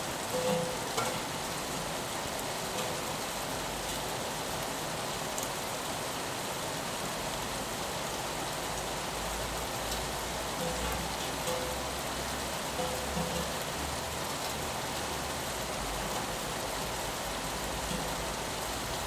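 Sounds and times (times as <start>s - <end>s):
rain on a window: 0.0s - 19.0s.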